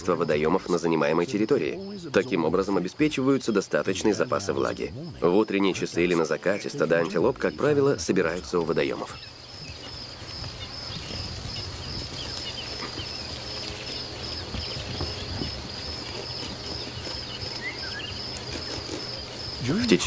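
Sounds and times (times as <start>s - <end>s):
insect pulsing call: 0.0s - 20.0s.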